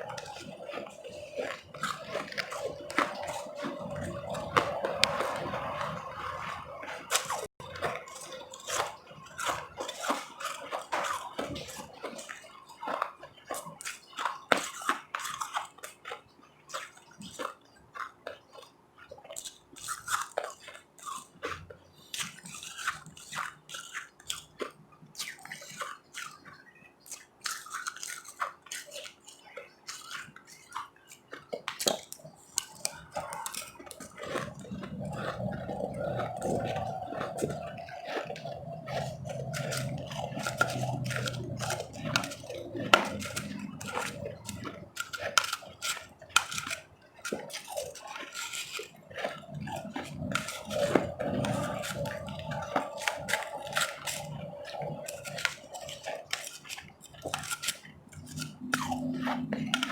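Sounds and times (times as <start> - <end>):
person chewing ice: 0.0 - 59.9.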